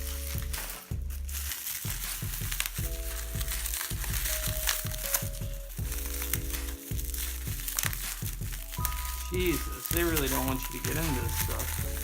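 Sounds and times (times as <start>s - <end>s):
background music with bass: 0.0s - 12.0s
plastic packaging crinkling: 0.0s - 12.0s.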